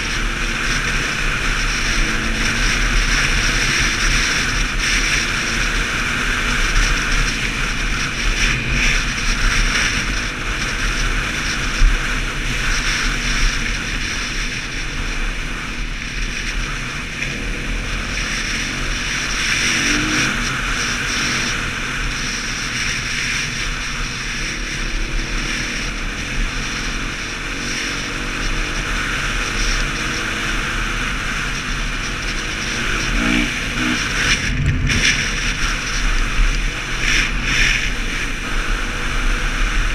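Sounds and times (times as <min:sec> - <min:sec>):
dirt bike engine running: 0:00.0 - 0:39.9
wind rumbling over microphone: 0:00.0 - 0:39.9.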